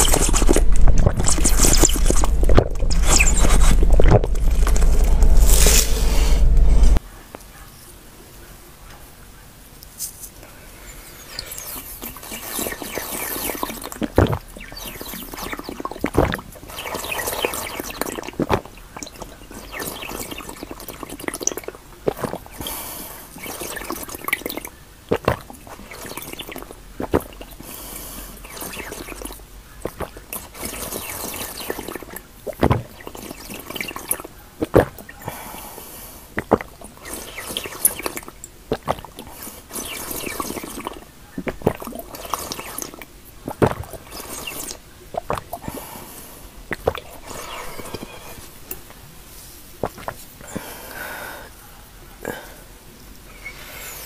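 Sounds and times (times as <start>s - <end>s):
gulps and clicks: 0.0s - 7.0s, 11.4s - 35.6s, 36.3s - 46.1s, 46.7s - 49.0s, 49.8s - 50.8s
sipping and slurping liquid: 0.0s - 7.0s, 11.3s - 48.9s, 49.8s - 50.7s.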